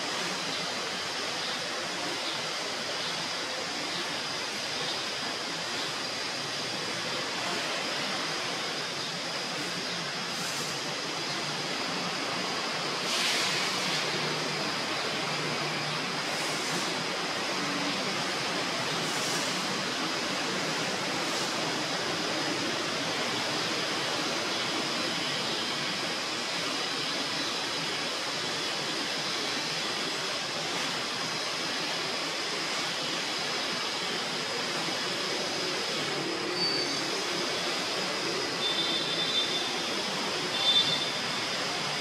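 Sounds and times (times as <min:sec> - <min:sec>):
faint high whine: 0:00.0 - 0:42.0
steady rushing hiss: 0:00.0 - 0:42.0.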